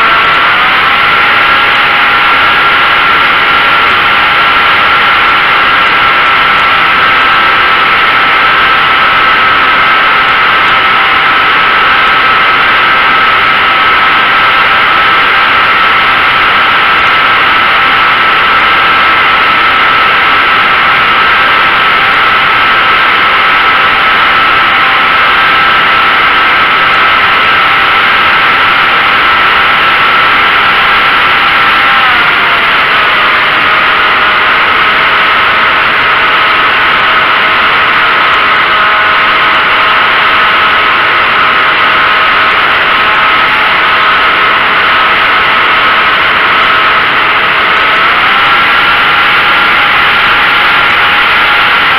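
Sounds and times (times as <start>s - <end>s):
model plane motor whine: 0.0s - 51.9s.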